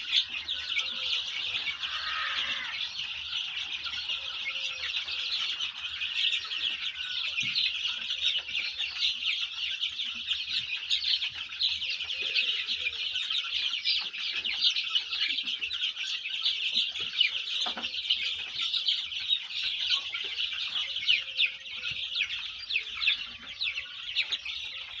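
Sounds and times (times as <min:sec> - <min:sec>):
chicks peeping: 0:00.0 - 0:25.0.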